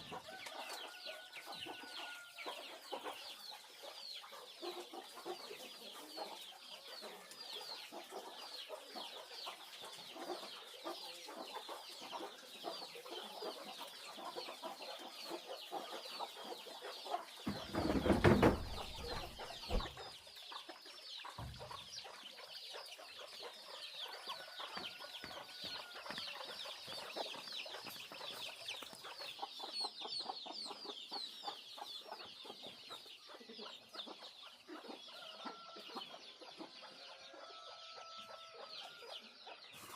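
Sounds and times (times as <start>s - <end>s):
chickens clucking and peeping: 0.0s - 39.9s.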